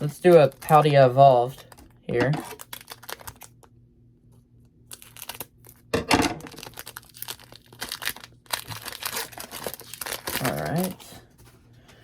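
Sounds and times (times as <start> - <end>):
foil wrapper crinkling and tearing: 0.0 - 3.7, 4.8 - 11.2.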